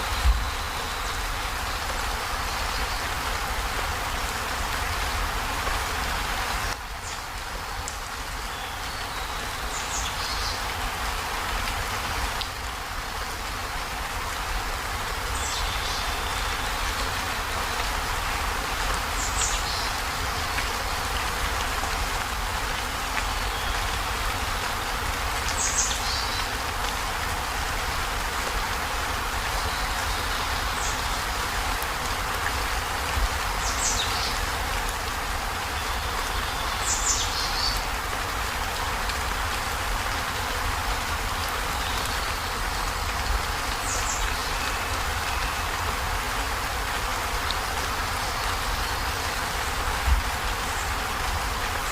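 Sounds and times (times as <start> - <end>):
heavy rain on a metal roof: 0.0 - 51.9.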